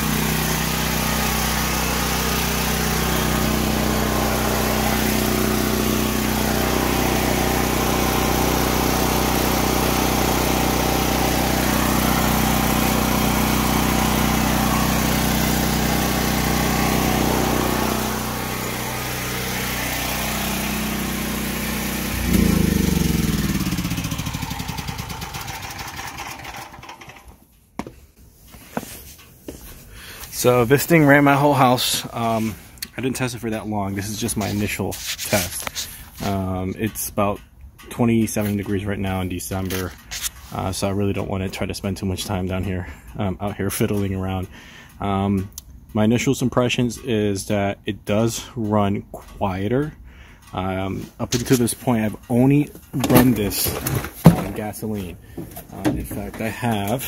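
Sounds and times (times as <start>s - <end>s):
generator engine running: 0.0s - 27.6s, 29.5s - 46.4s, 47.0s - 57.0s.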